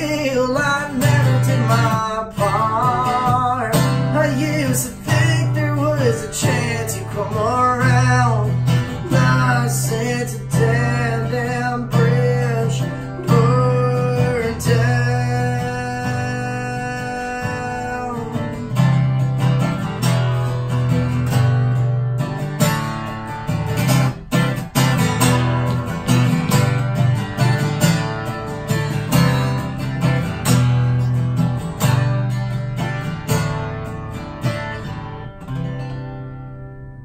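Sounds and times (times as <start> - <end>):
acoustic guitar strummed and picked: 0.0 - 37.0.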